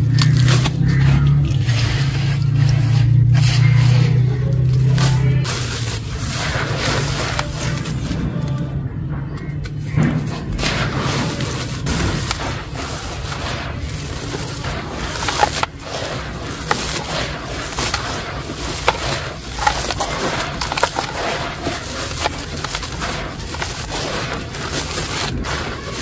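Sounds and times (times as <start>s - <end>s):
sharp crackles of breaking chunks: 0.0s - 8.8s, 9.4s - 26.0s
gritty crunching of cement lumps: 0.0s - 26.0s
water sloshing: 0.4s - 8.6s, 10.0s - 26.0s.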